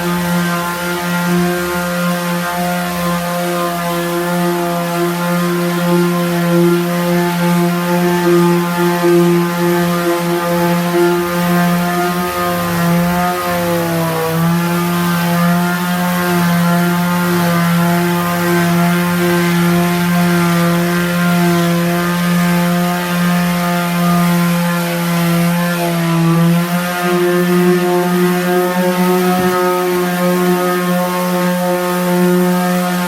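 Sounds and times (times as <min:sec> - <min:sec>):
power sander motor whine: 0:00.0 - 0:33.0.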